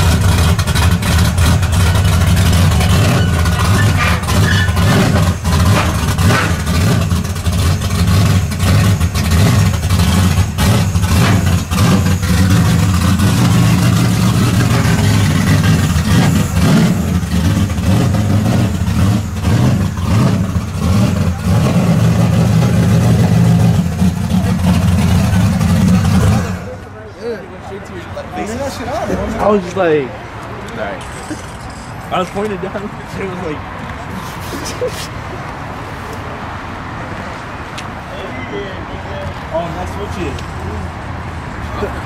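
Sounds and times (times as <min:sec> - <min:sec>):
car engine rumbling: 0:00.0 - 0:38.3, 0:39.0 - 0:42.0.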